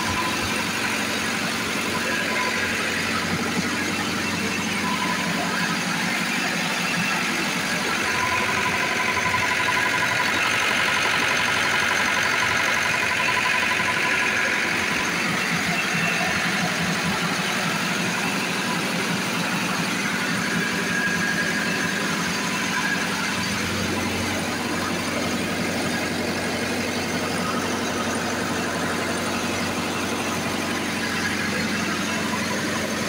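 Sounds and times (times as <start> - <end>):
diesel generator running: 0.0 - 33.0.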